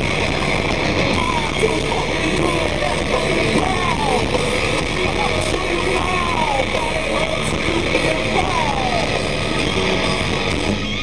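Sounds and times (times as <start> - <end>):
distorted electric guitars: 0.0 - 11.0
drums: 0.0 - 11.0.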